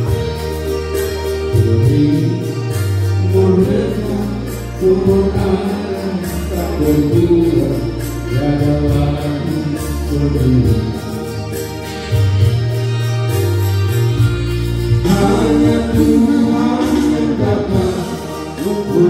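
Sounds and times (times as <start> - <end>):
man singing into a microphone: 0.0 - 11.6, 14.9 - 19.0
amplified backing music: 0.0 - 19.0.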